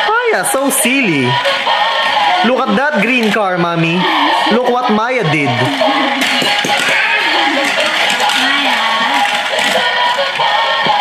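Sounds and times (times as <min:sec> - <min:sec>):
electronic music with synthetic singing: 0:00.0 - 0:11.0.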